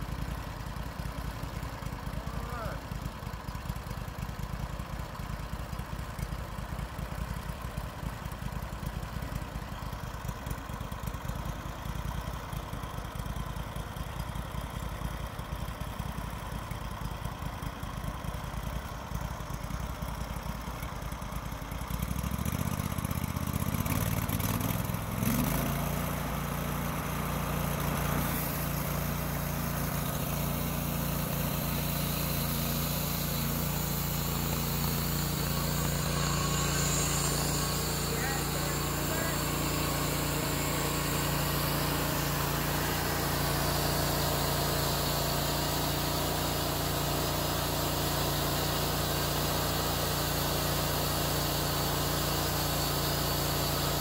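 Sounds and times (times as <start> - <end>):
sawmill engine idling and revving: 0.0 - 54.0.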